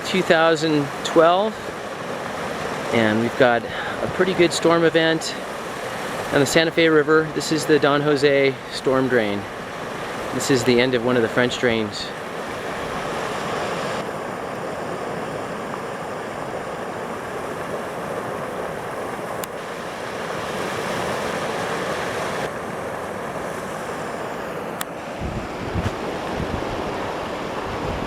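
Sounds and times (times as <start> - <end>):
wind buffeting microphone: 0.8 - 6.7, 8.6 - 28.0.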